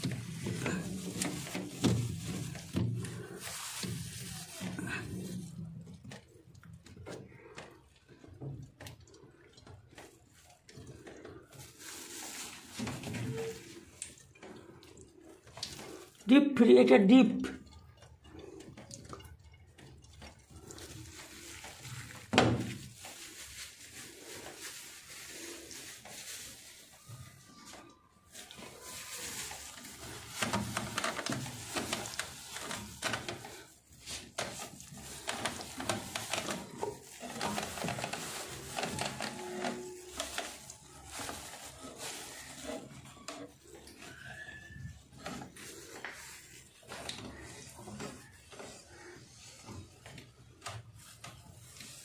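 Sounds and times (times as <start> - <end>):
cloth wiping plastic: 0.0 - 6.3, 10.2 - 14.3, 20.6 - 52.0
small clicks and scrapes: 0.0 - 16.2, 17.6 - 23.4, 24.0 - 52.0.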